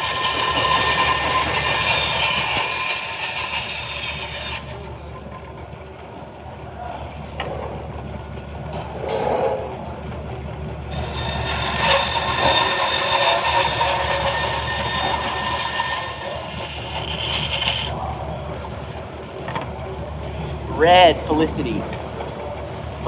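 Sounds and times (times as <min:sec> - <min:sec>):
workshop machine whining: 0:00.0 - 0:23.0.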